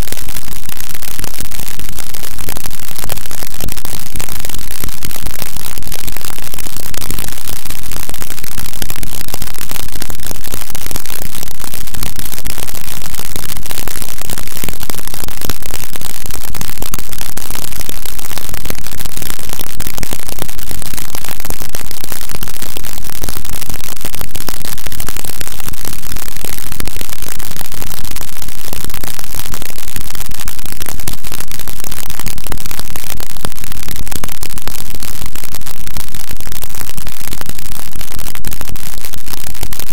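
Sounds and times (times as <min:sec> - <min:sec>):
distorted static noise music: 0:00.0 - 0:39.9.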